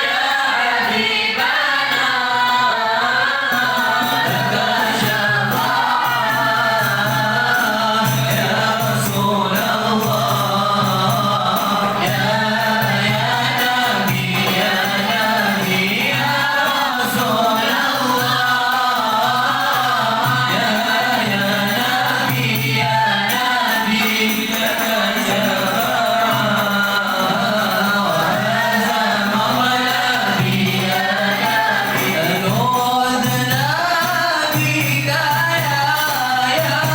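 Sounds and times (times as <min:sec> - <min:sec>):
group singing devotional chant: 0:00.0 - 0:36.9.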